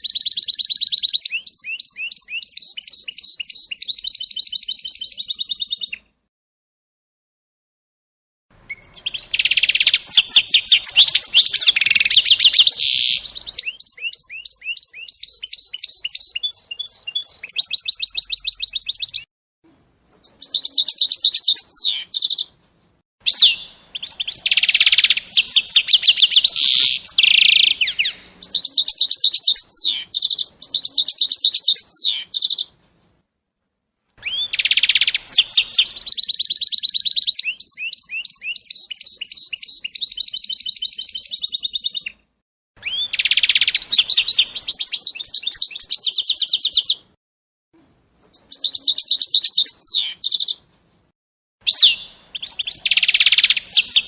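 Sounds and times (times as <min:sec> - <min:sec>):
songbird trilling and warbling: 0:00.0 - 0:06.0, 0:08.7 - 0:19.3, 0:20.1 - 0:22.5, 0:23.3 - 0:32.7, 0:34.2 - 0:42.2, 0:42.8 - 0:47.0, 0:48.2 - 0:50.6, 0:51.7 - 0:54.0.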